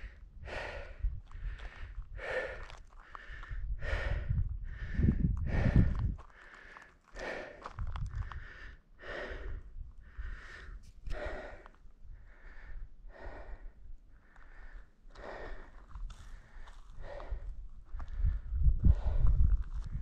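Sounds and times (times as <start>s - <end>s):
person breathing hard: 0.0s - 20.0s.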